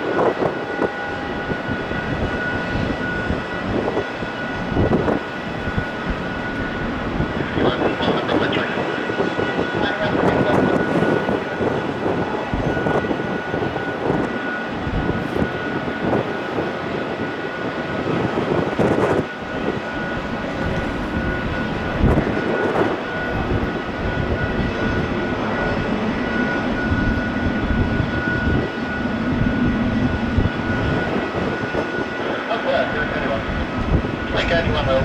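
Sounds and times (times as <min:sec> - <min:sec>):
jet engines whining: 0:00.0 - 0:35.0
wind buffeting microphone: 0:00.0 - 0:35.0.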